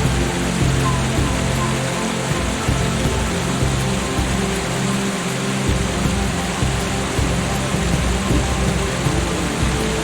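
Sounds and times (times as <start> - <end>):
ambient music low held notes: 0.0 - 10.0
steady rain: 0.0 - 10.0.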